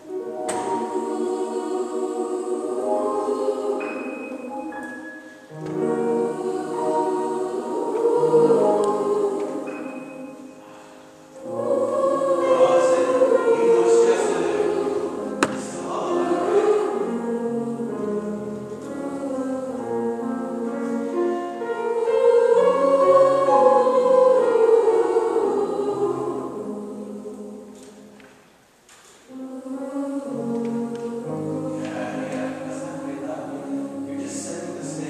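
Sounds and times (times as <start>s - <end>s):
girls' choir singing: 0.0s - 28.2s, 29.3s - 35.0s.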